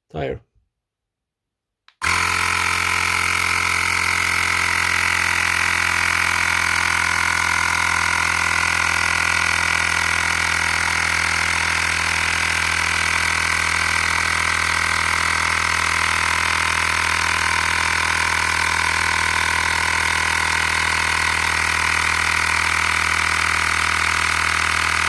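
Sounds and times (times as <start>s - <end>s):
air compressor buzzing hum: 2.0s - 25.0s.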